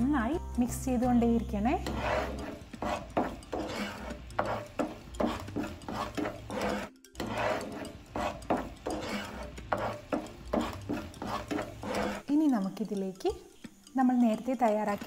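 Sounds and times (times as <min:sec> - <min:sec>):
wooden spatula scraping a pan: 0:01.2 - 0:13.7.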